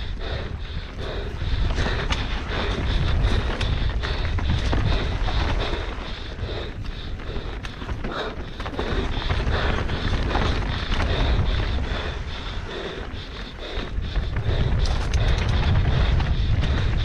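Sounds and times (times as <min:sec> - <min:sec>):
bike rattling over dirt: 0:00.0 - 0:17.0
wind buffeting microphone: 0:00.0 - 0:17.0.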